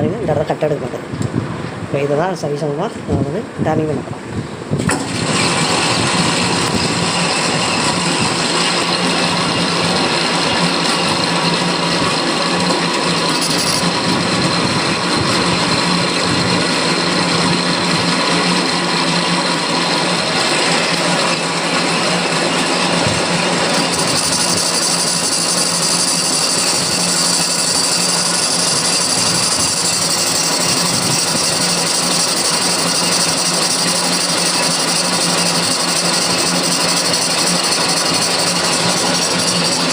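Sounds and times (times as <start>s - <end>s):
lathe motor hum: 4.6s - 39.9s
lathe tool cutting metal: 4.9s - 39.9s.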